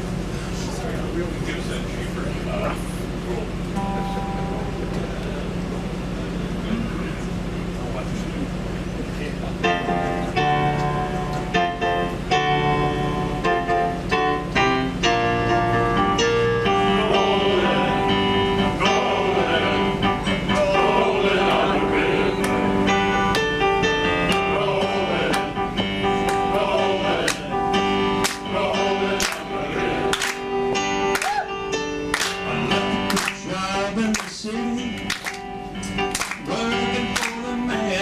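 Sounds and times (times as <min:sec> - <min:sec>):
guitar-led band playing: 0:03.6 - 0:05.9, 0:09.6 - 0:38.0.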